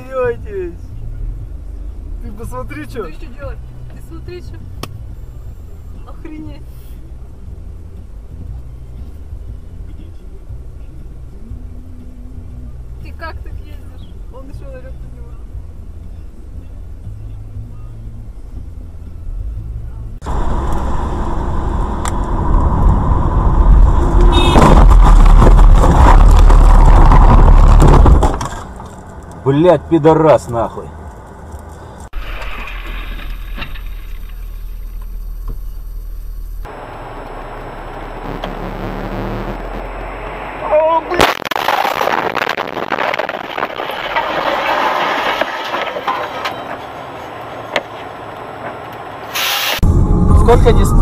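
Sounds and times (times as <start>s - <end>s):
car engine and road noise: 0.0s - 51.0s.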